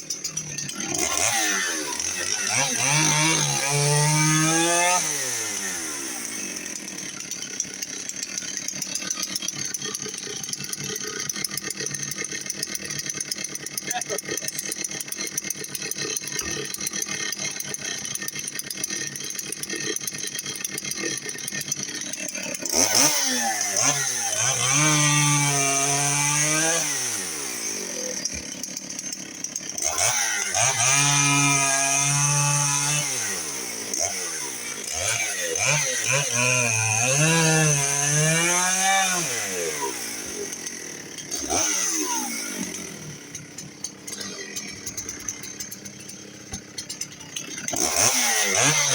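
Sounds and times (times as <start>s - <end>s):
chainsaw cutting logs: 0.0s - 48.9s.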